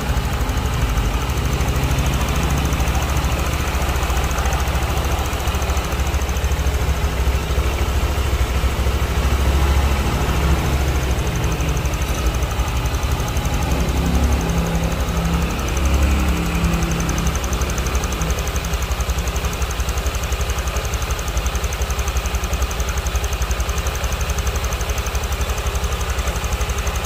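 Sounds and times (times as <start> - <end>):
scooter engine idling: 0.0 - 27.0.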